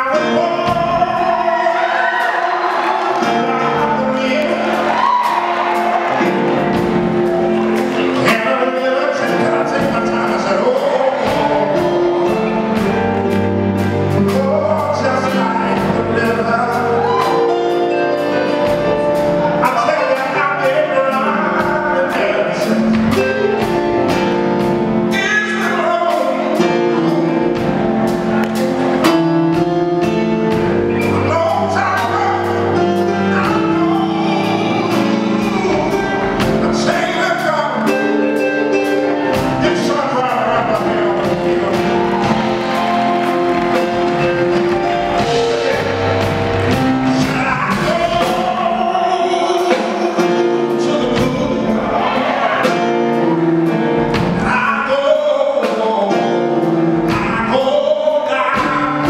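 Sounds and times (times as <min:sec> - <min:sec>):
man singing into a microphone: 0:00.0 - 0:05.3, 0:08.0 - 0:13.4, 0:14.0 - 0:23.8, 0:25.1 - 0:27.7, 0:30.9 - 0:42.2, 0:44.3 - 0:52.9, 0:54.3 - 0:59.0
band playing: 0:00.0 - 0:59.0.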